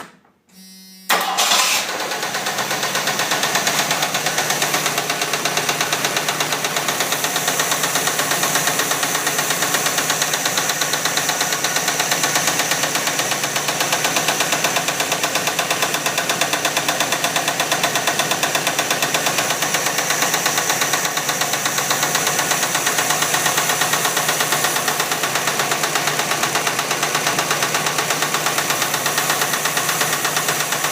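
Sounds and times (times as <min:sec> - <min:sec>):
engine idling: 0:01.2 - 0:30.9
rapid engine tapping: 0:02.1 - 0:30.9.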